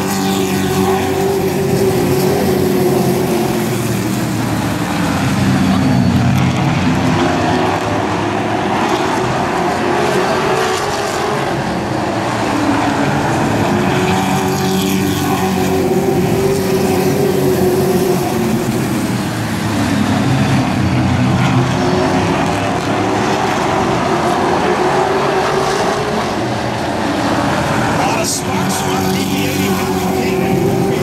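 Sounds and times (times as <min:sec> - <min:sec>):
race truck engines circling: 0:00.0 - 0:31.0.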